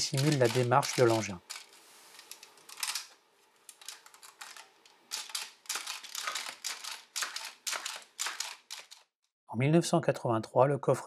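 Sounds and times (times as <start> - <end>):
plastic toy mechanism clicking: 0.0 - 9.1.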